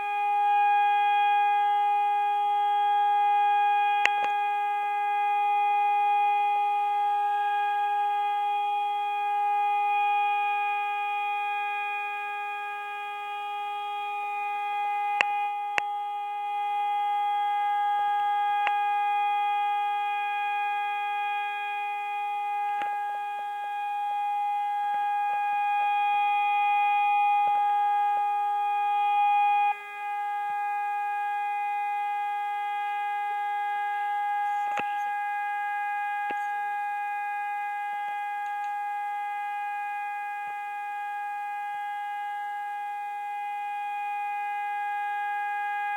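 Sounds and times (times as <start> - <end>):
steady warning siren tone: 0.0 - 45.9.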